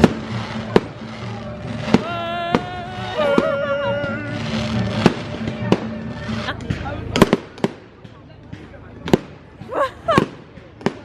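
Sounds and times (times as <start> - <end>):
background music: 0.0 - 11.0
fireworks exploding: 0.0 - 11.0.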